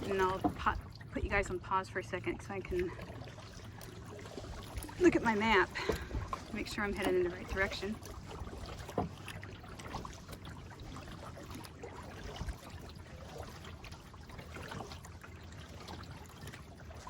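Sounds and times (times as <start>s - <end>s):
faint drips and splashes: 0.0s - 17.0s
water lapping around a kayak: 0.0s - 17.0s.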